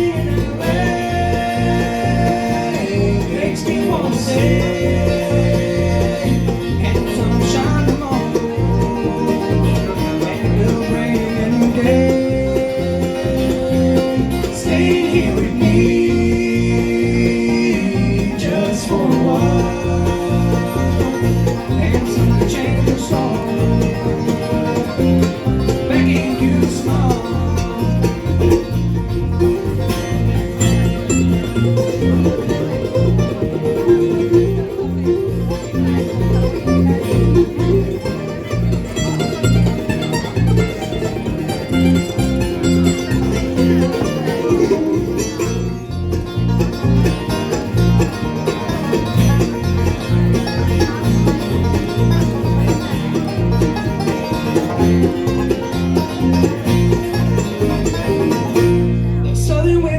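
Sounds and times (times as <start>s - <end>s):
live band playing: 0.0s - 59.9s
steady bass beat: 0.0s - 59.9s.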